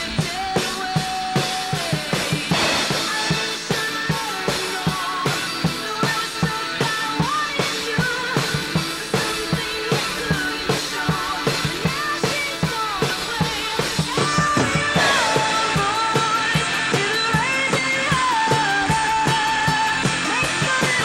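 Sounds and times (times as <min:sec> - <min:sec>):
drum kit steady beat: 0:00.0 - 0:21.0
rock music: 0:00.0 - 0:21.0.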